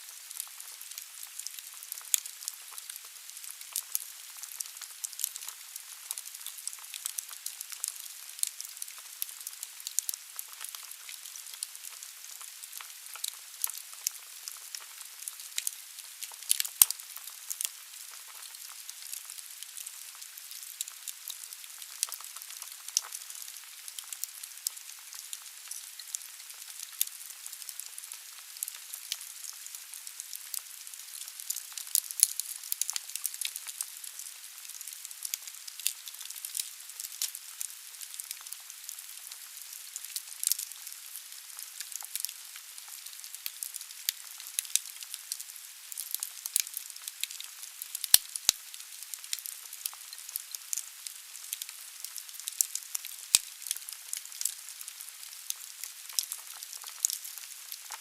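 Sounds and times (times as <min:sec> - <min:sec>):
logs crackling and popping: 0:00.2 - 0:58.0.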